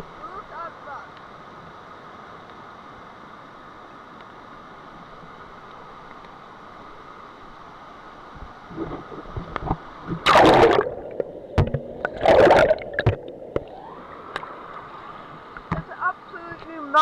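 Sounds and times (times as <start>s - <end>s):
flooded creek rushing: 0.0s - 17.0s.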